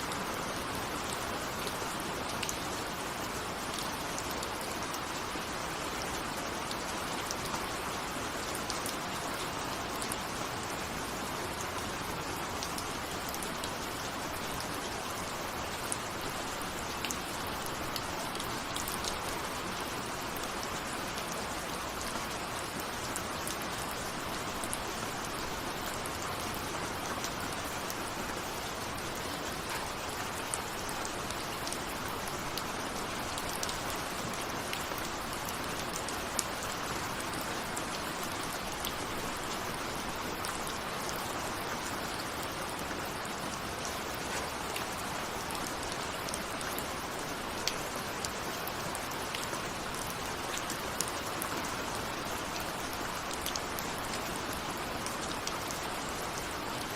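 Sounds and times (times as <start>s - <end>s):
steady rain falling: 0.0s - 56.9s
raindrops ticking on a surface: 0.1s - 56.9s.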